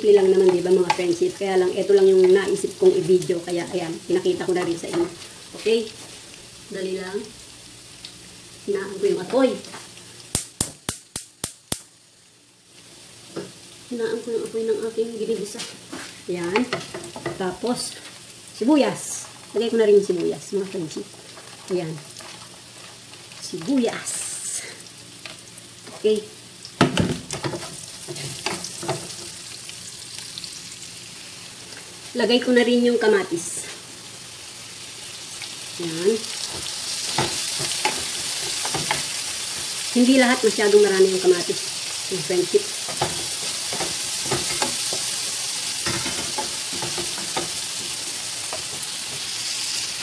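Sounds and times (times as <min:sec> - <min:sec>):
onion sizzling in a frying pan: 0:00.0 - 0:50.0.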